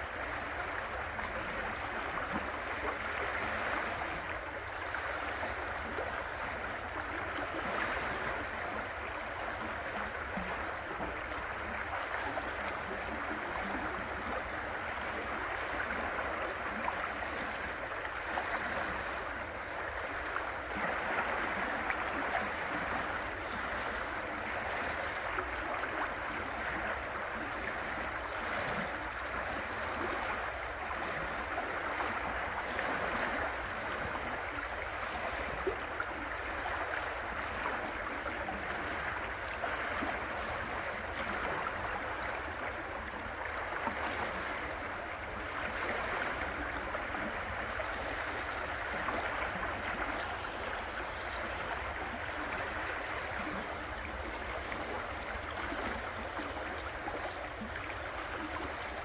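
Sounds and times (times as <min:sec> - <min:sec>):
river water babbling over rocks: 0:00.0 - 0:59.0.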